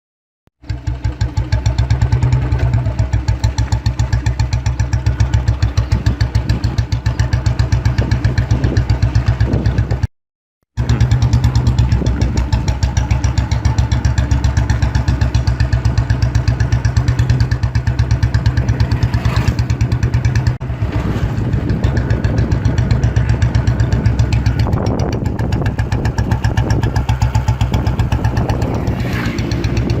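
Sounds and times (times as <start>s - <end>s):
motorcycle engine idling: 0.6s - 10.1s, 10.8s - 30.0s.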